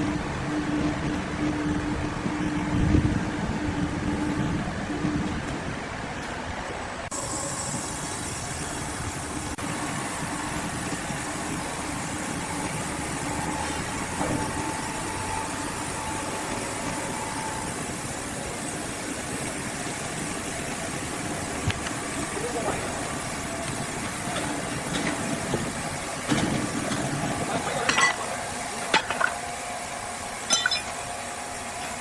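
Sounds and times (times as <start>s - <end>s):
sawmill machinery hum: 0.0s - 32.0s.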